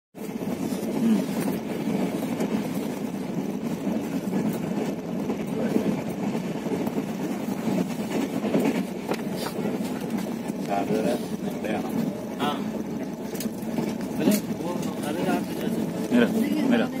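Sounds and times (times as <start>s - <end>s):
train running on track: 0.2s - 17.0s.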